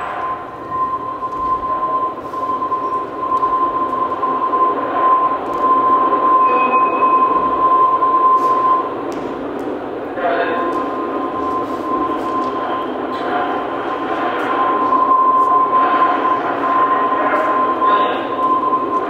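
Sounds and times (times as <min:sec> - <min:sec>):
high-pitched whine: 0:00.0 - 0:19.0
loud steady rushing noise: 0:00.0 - 0:19.0.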